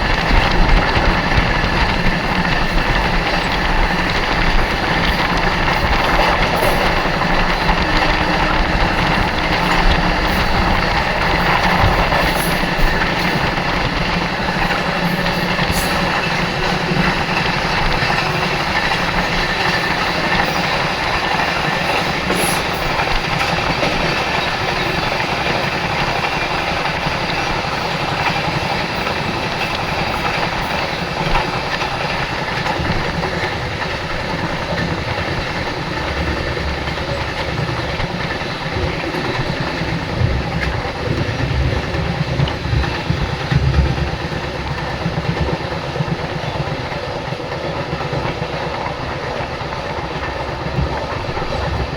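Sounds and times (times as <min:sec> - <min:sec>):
train rolling on track: 0:00.0 - 0:51.9
wheels clicking over rails: 0:00.0 - 0:51.9.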